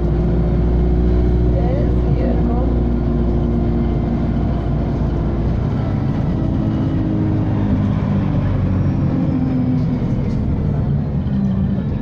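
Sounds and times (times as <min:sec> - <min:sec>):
bus engine hum: 0:00.0 - 0:12.0.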